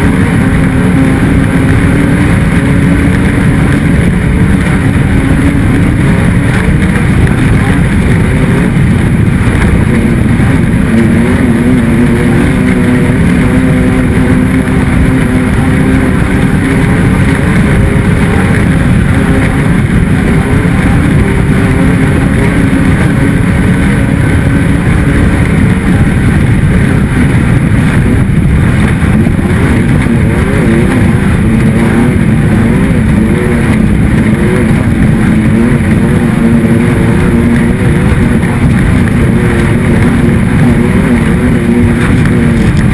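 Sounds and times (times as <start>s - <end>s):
off-road vehicle engine running hard: 0.0s - 42.9s
rumble of driving noise: 0.0s - 42.9s.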